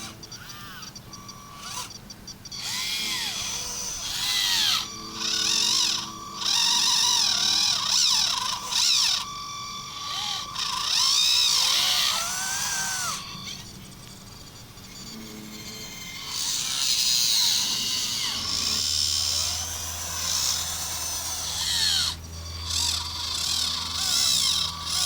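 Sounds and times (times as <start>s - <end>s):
small electric motors whining: 0.0s - 25.0s.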